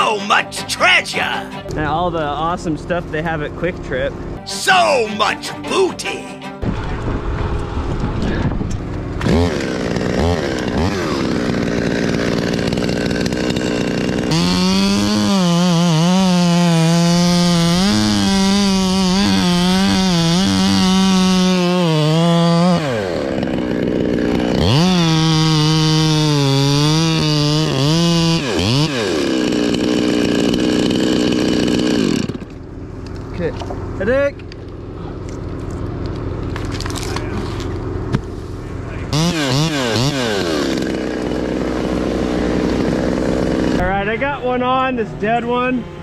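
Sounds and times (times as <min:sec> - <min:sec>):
chainsaw cutting wood: 0:03.5 - 0:43.9.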